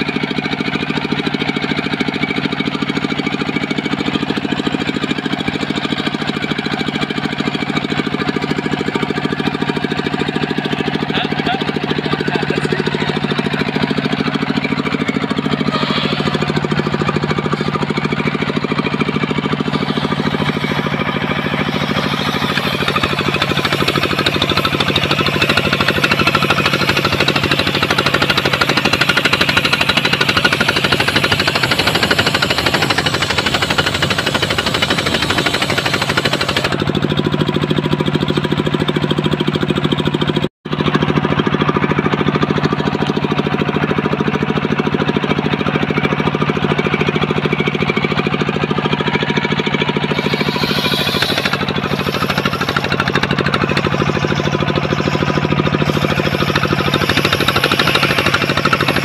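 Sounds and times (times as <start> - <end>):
circular saw cutting log: 0.0 - 39.8, 44.8 - 59.0
machine drone: 0.0 - 59.0.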